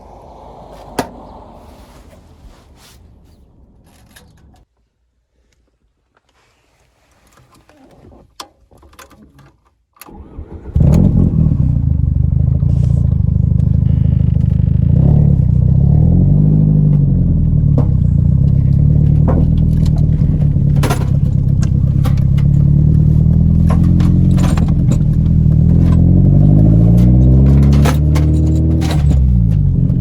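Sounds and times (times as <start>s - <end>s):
car engine starting and running: 0.0s - 4.6s, 10.0s - 30.0s.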